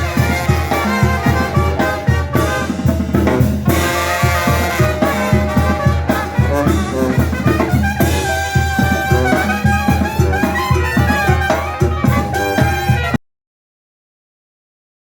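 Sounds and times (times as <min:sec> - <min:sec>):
brass band music: 0:00.0 - 0:13.2
drums playing steady beat: 0:00.0 - 0:13.2.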